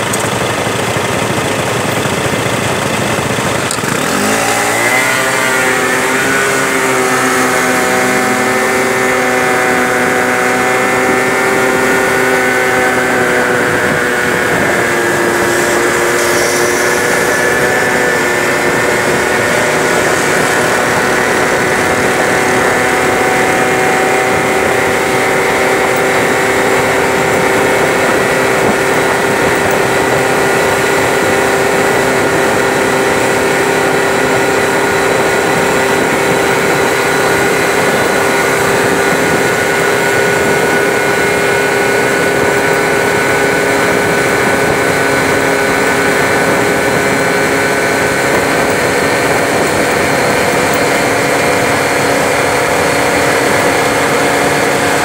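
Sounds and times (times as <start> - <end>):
scooter engine running: 0.0 - 55.0
wind and road noise: 0.0 - 55.0.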